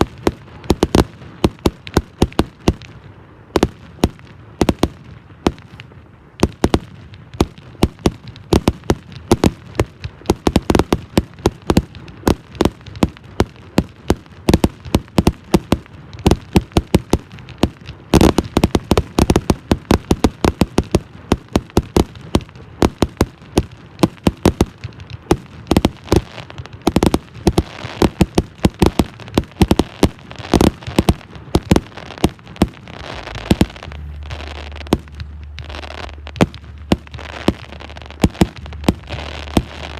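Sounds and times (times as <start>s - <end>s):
fireworks bangs and pops: 0.0s - 39.9s.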